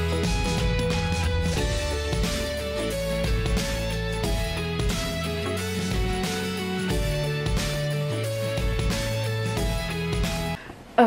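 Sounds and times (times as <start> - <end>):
guitar chords: 0.0 - 10.6
steady bass: 0.0 - 10.6.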